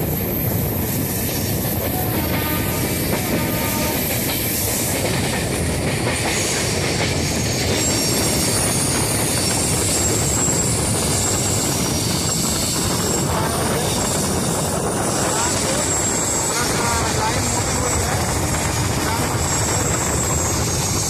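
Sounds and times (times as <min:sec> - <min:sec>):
train wheels rumbling and clattering: 0:00.0 - 0:21.0.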